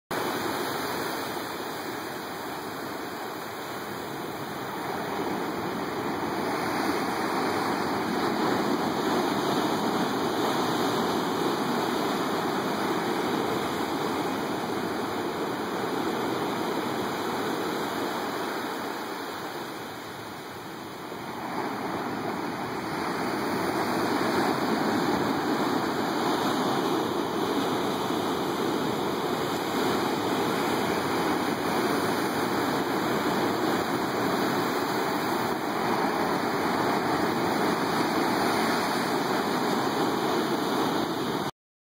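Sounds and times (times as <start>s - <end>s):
ocean surf breaking against rock: 0.2s - 41.5s.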